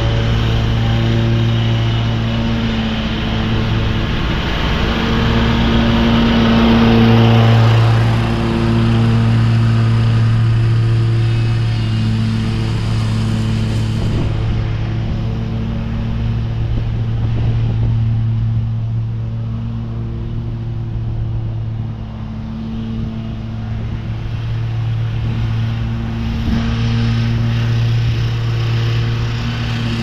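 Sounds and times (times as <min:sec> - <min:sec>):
ride-on lawn mower running: 0:00.0 - 0:30.0.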